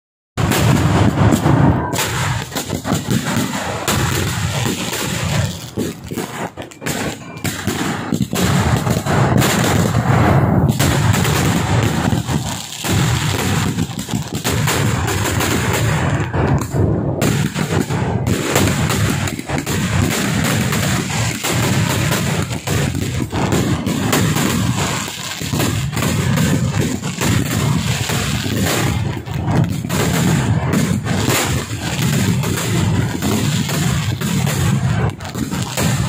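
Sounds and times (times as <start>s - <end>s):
fireworks barrage bangs and crackling: 0.4s - 36.0s.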